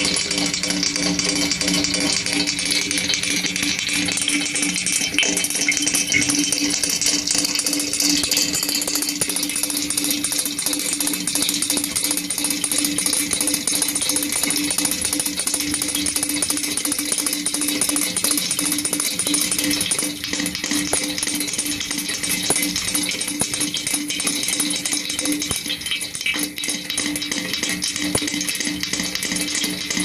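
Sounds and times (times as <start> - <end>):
dense crackling and rattling: 0.0 - 30.0.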